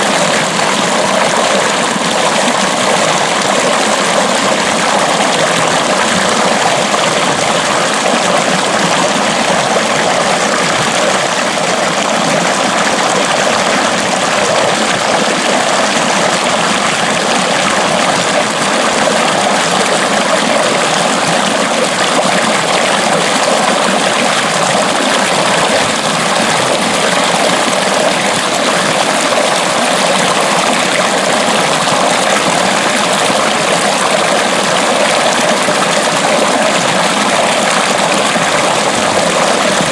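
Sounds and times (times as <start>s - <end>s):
water rushing along ditch: 0.0s - 39.9s.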